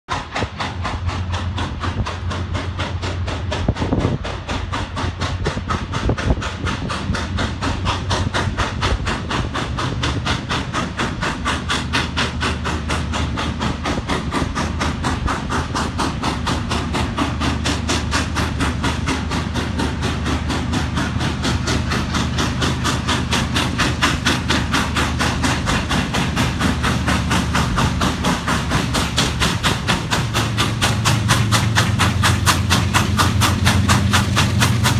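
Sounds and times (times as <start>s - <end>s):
diesel locomotives droning: 0.1s - 34.9s
steam locomotive exhaust beating: 0.1s - 34.9s.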